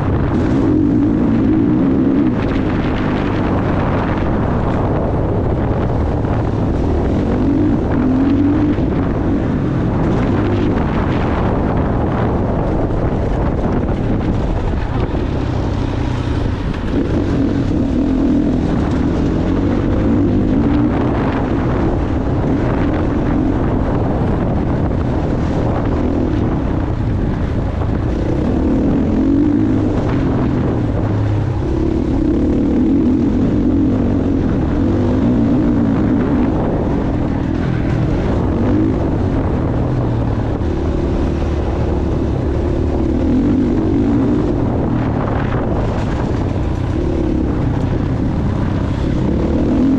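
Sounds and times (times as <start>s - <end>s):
dirt bike engine revving: 0.0s - 49.9s
wind rumble on microphone: 0.0s - 49.9s.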